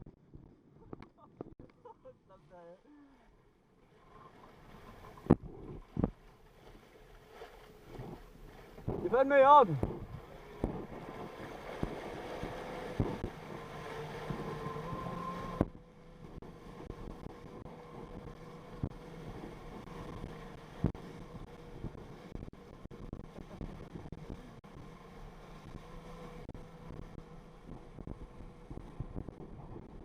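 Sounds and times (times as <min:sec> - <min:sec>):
jet ski engine running: 0:02.6 - 0:30.0.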